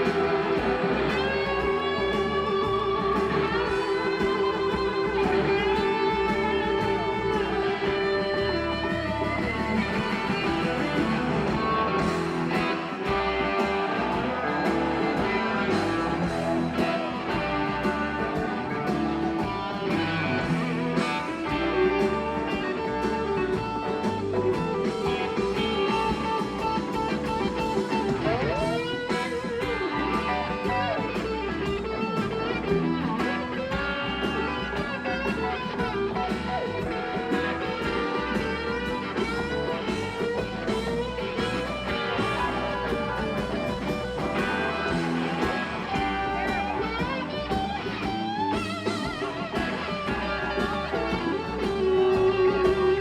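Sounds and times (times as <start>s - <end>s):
blues-rock band playing: 0.0s - 53.0s
electric guitar lead bending notes: 0.0s - 53.0s.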